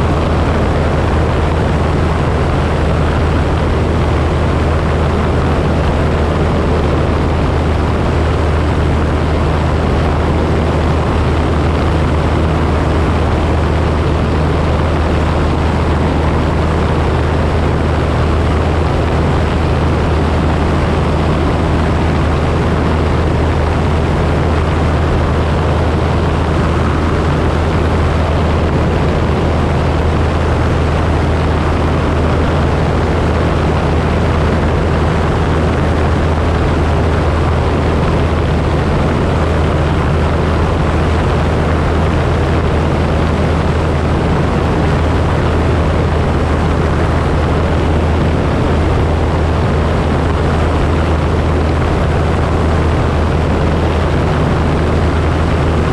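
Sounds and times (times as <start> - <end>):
propeller aircraft engine drone: 0.0 - 55.9.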